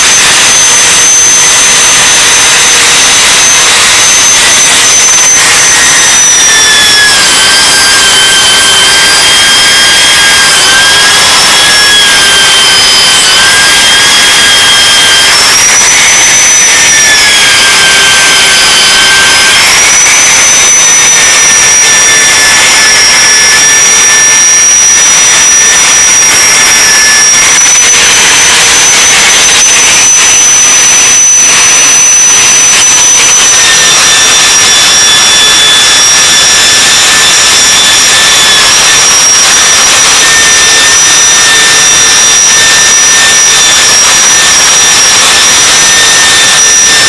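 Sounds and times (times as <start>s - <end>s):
power tool wire brush whine: 0.0s - 31.0s, 33.3s - 47.0s.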